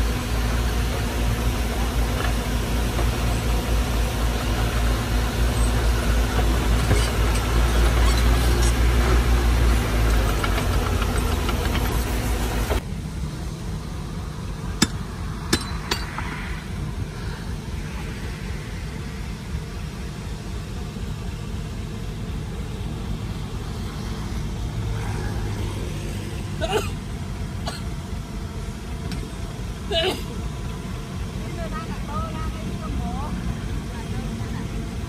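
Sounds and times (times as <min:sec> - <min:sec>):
heavy diesel engine rumbling: 0:00.0 - 0:35.0.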